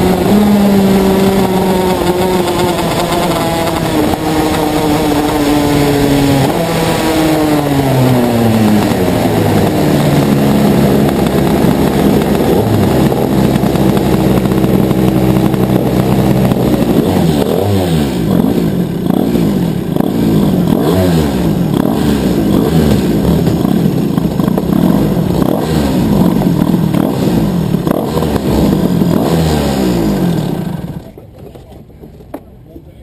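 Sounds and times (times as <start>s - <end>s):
kart engine revving: 0.0s - 31.6s.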